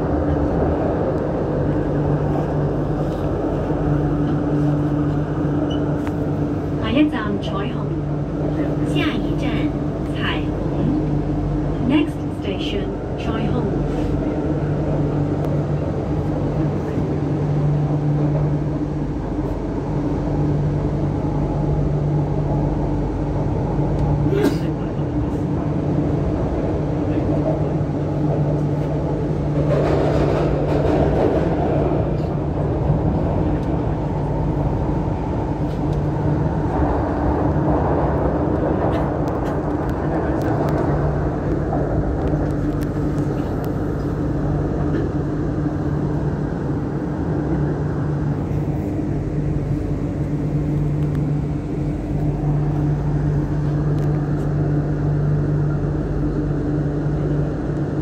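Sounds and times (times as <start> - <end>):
constant low hum: 0.0 - 58.0
train wheels rumbling on track: 0.0 - 58.0.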